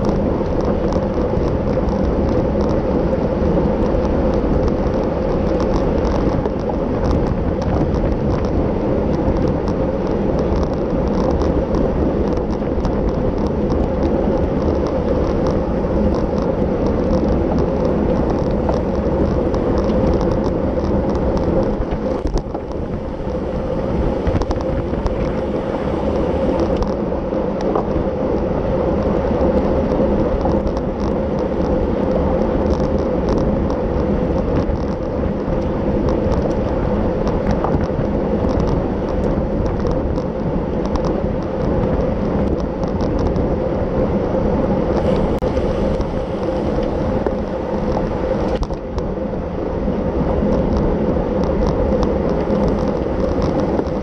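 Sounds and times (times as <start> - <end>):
small clicks and ticks: 0.0 - 43.5, 44.9 - 49.2, 50.1 - 54.0
bicycle road noise: 0.0 - 54.0
wind rush on microphone: 0.0 - 54.0.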